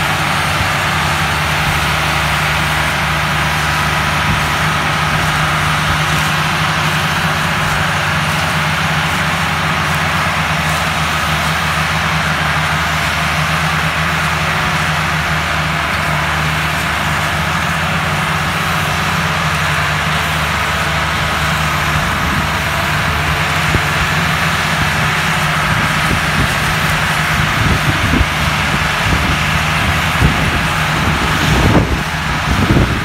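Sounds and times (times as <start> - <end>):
tractor diesel engines under load: 0.0 - 33.0.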